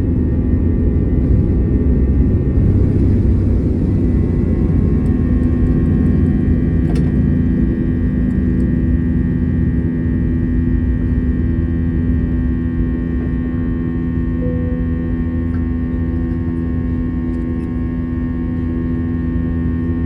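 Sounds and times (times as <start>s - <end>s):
jet engine rumble in cabin: 0.0s - 20.0s
jet engine whine: 0.0s - 20.0s.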